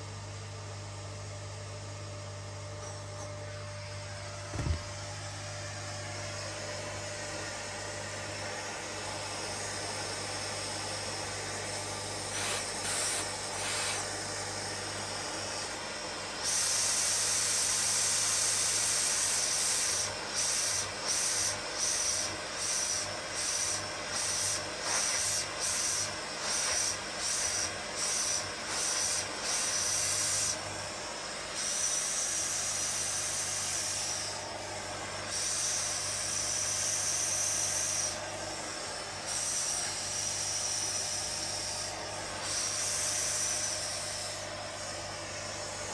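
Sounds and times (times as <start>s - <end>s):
grooming vacuum motor hum: 0.0s - 45.9s
airy vacuum hiss: 4.6s - 45.9s.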